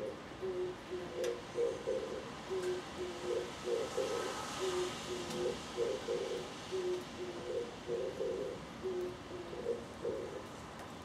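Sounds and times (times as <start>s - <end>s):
dove cooing: 0.0s - 10.5s.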